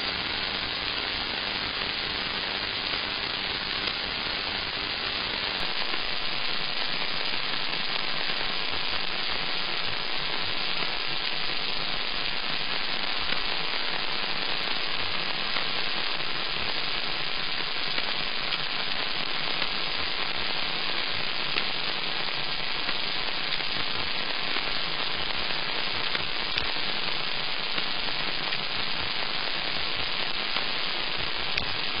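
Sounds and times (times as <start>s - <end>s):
faint low crackles and pops: 0.0s - 32.0s
steady hiss: 0.0s - 32.0s.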